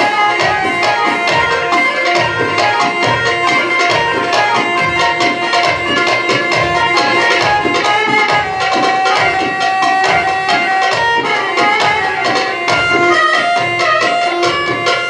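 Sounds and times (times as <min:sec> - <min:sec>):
accordion and keyboard melody: 0:00.0 - 0:15.0
hand drum rhythm: 0:00.0 - 0:15.0.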